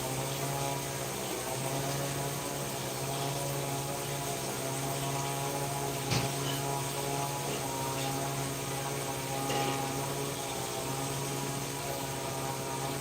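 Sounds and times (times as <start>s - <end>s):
electrical motor hum: 0.0s - 13.0s.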